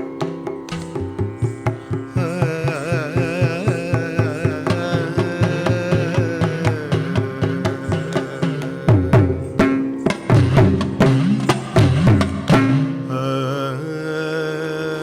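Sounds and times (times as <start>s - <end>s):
drum strokes: 0.0s - 13.1s
ornamented melody gliding in pitch: 0.0s - 14.0s.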